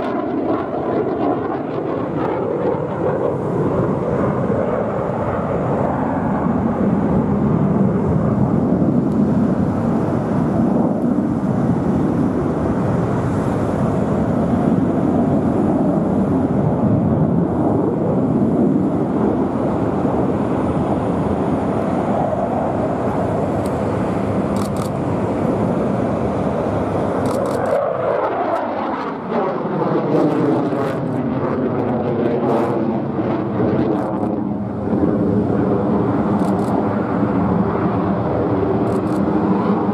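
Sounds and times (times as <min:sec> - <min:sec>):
jet engine roaring: 0:00.0 - 0:39.9
jet flying past: 0:00.0 - 0:39.9.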